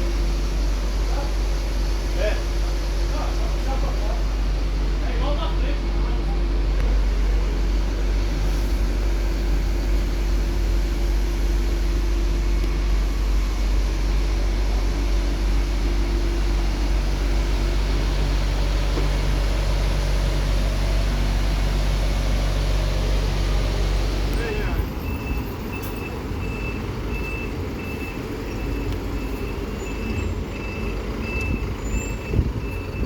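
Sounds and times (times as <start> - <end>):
bus diesel engine rumble: 0.0 - 33.0
road noise: 0.0 - 33.0.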